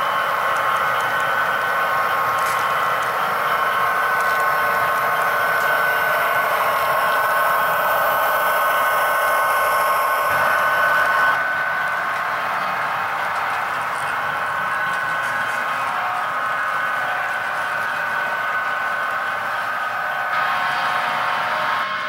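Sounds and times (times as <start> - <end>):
model train mechanical whirring: 0.0 - 22.0
two-tone whine: 0.0 - 22.0.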